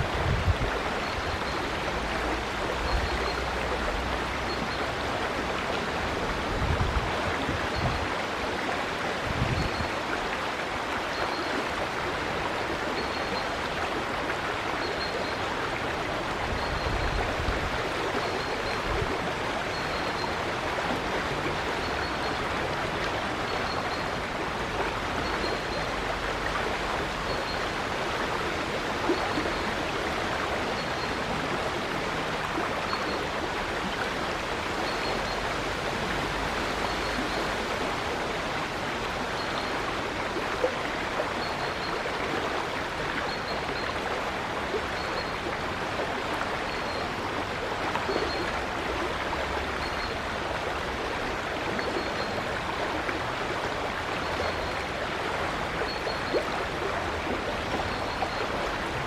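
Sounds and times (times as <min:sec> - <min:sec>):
river water rushing over stones: 0:00.0 - 0:59.0.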